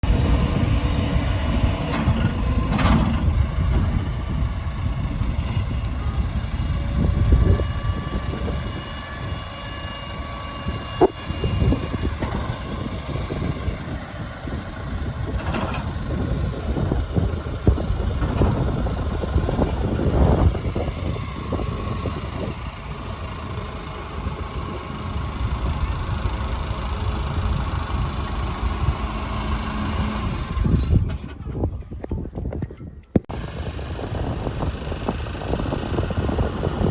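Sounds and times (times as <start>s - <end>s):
faint steady whines: 0.0s - 30.9s
backhoe loader engine running: 0.0s - 32.5s, 33.2s - 36.9s.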